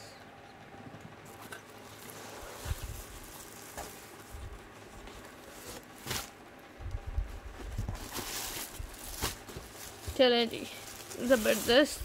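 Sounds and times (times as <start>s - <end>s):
plastic wrap rustling: 1.3s - 6.4s, 7.1s - 12.0s
sharp plastic crackle: 1.3s - 12.0s.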